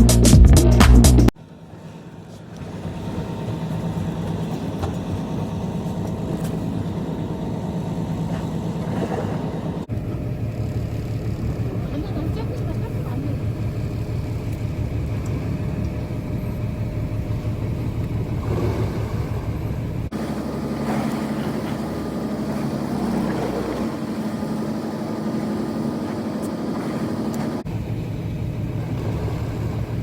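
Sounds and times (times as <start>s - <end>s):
boat engine drone: 0.0s - 30.0s.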